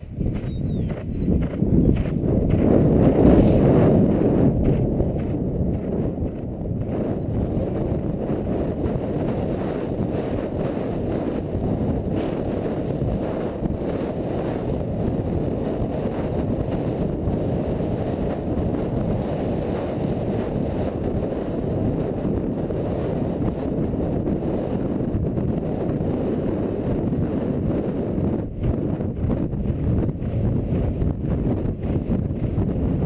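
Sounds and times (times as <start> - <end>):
galloping horse hoofbeats: 0.0 - 33.0
wind rushing over microphone: 0.0 - 33.0.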